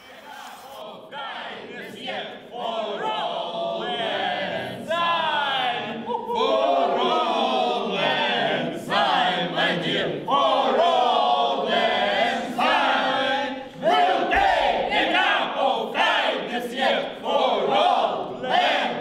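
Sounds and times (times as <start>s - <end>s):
group of people chanting in chorus: 0.2s - 19.0s.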